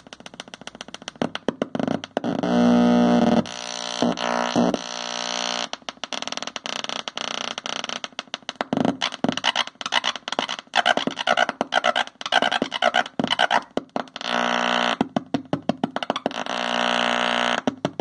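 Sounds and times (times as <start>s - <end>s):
noise synthesizer buzzing and squealing: 0.1s - 18.0s.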